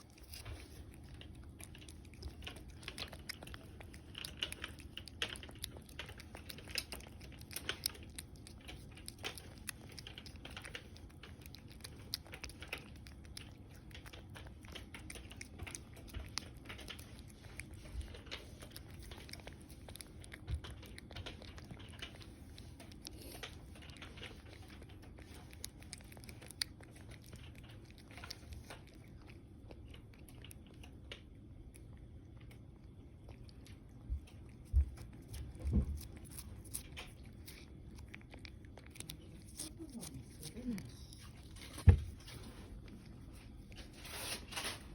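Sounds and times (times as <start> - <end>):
cat licking and smacking: 0.0 - 44.9.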